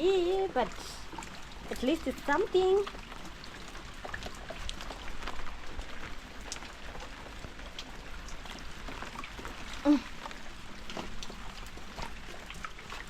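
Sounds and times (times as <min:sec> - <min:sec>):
rain pattering: 0:00.0 - 0:13.0
steady rain hiss: 0:00.0 - 0:13.0.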